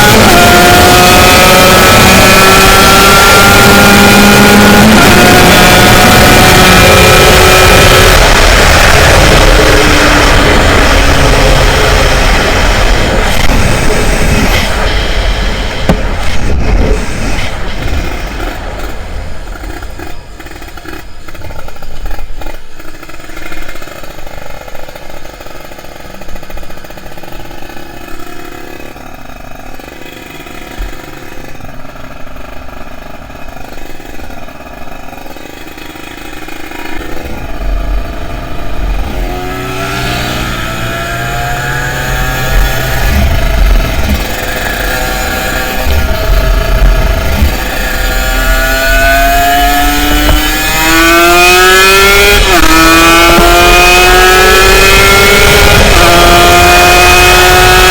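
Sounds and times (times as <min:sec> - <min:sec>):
motorcycle engine revving high: 0:00.0 - 0:57.9.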